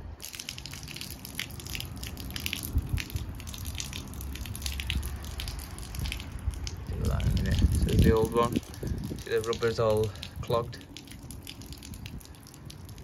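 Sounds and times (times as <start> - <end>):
water spilling: 0.0 - 13.0.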